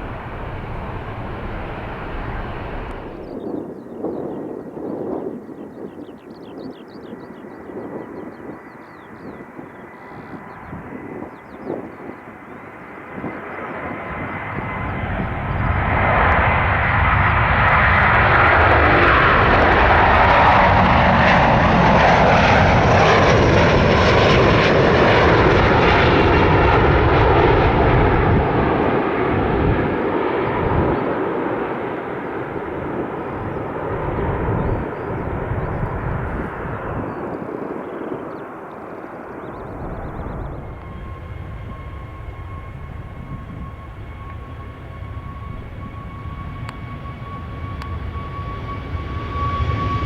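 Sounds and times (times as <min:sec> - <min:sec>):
jet airliner rumble: 0:00.0 - 0:50.0.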